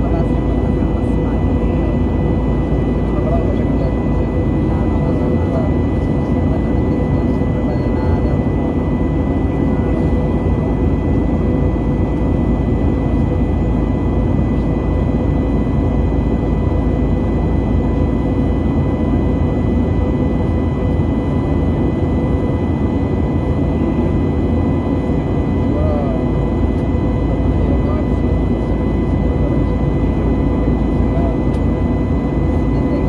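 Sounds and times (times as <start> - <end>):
deep rumble of engines and airflow: 0.0 - 33.0.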